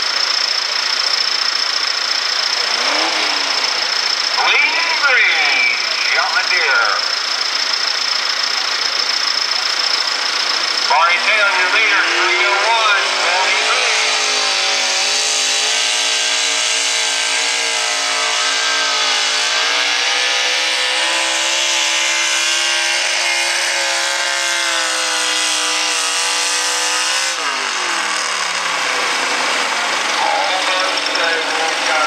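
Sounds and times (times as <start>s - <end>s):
tractor engine at full throttle: 0.0s - 32.0s.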